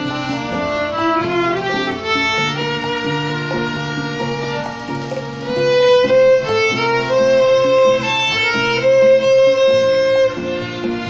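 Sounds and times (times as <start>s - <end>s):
bowed violin melody: 0.0s - 11.0s.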